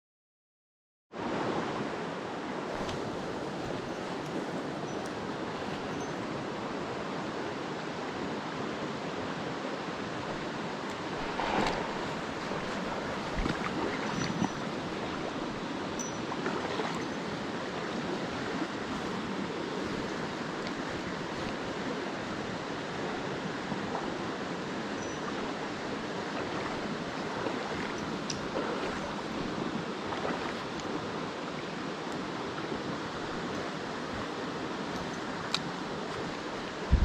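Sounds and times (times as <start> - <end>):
stream rushing over rocks: 1.2 - 37.0.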